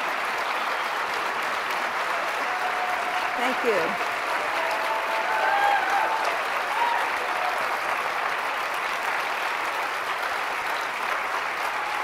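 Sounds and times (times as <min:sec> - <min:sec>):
audience applauding: 0:00.0 - 0:12.0
people cheering: 0:00.0 - 0:12.0.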